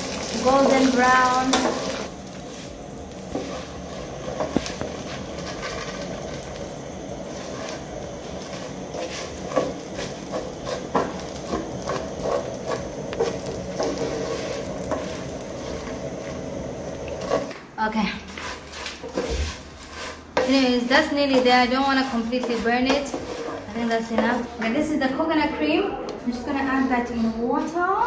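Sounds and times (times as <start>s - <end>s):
pasta sizzling in oil: 0.0s - 25.0s
spatula scraping pot: 0.2s - 6.5s, 7.1s - 24.9s.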